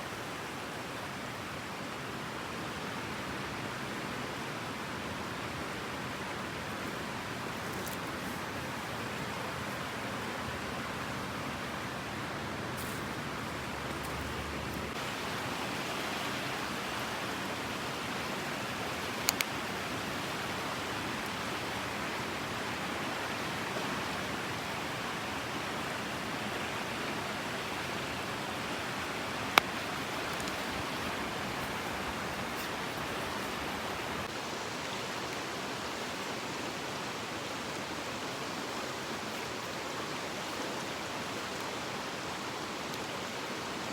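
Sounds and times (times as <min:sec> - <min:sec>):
stream water rushing: 0:00.0 - 0:43.9.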